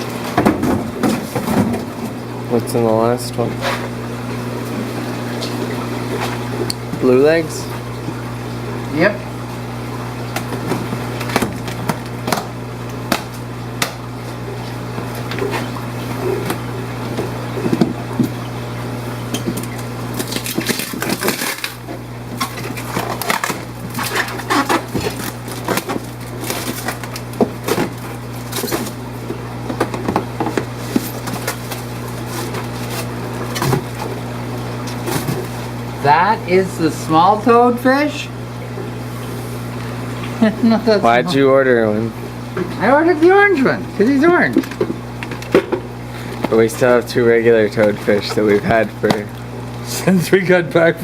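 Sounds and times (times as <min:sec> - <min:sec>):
pumps humming: 0:00.0 - 0:51.0.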